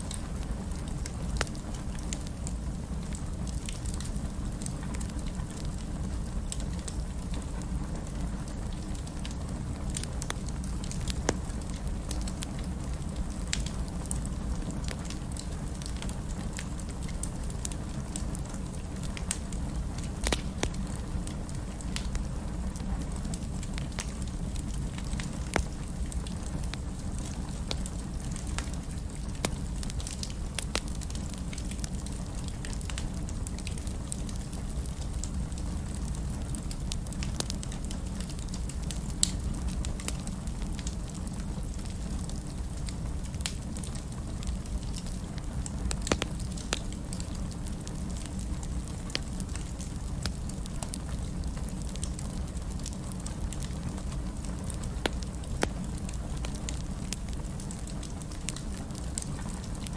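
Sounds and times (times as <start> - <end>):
fire popping and snapping: 0.0 - 59.9
low rumble of flames: 0.0 - 59.9.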